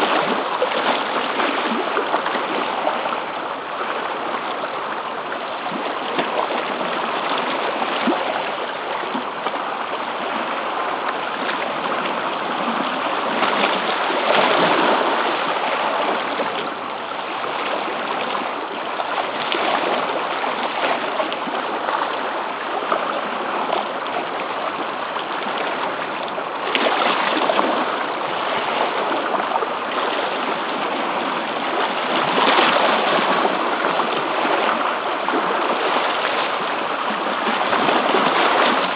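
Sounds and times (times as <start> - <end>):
surf washing over rocks: 0.0 - 38.9
waves breaking: 0.0 - 38.9.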